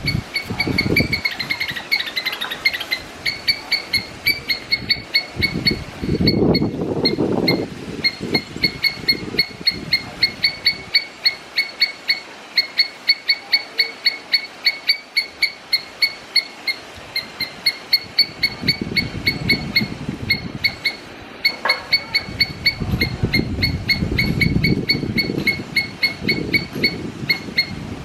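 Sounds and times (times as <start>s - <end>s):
squirrel barking: 0.0s - 27.9s.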